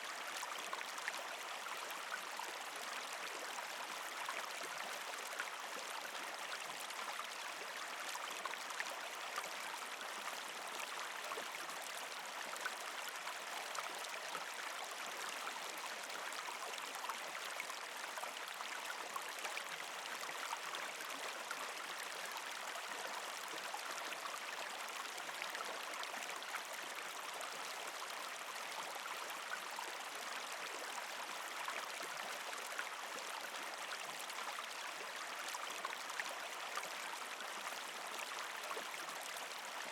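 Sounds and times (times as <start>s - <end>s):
creek water gurgling over rocks: 0.0s - 39.9s.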